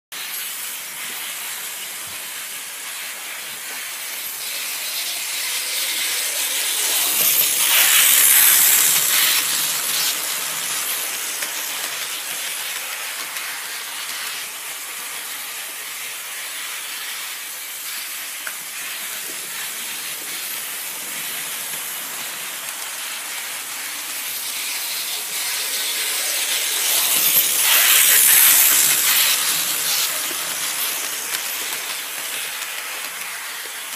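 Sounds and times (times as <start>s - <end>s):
model train running on track: 0.2s - 33.9s.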